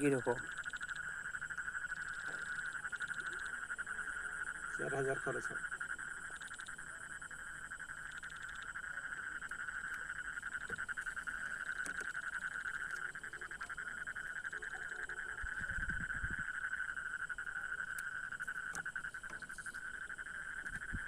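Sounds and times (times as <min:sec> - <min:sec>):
frogs and insects calling: 0:00.0 - 0:21.0.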